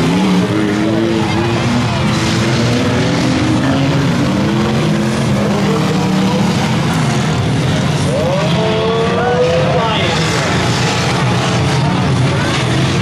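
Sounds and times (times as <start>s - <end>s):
many car engines racing: 0.0s - 13.0s.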